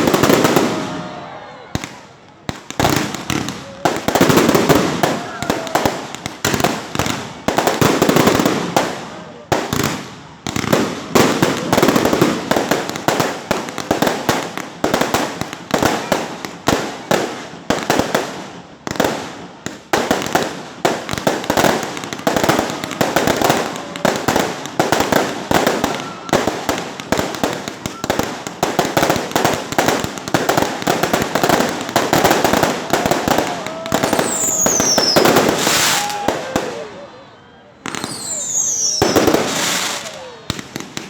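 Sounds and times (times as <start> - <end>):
fireworks cracking and banging: 0.0 - 41.0.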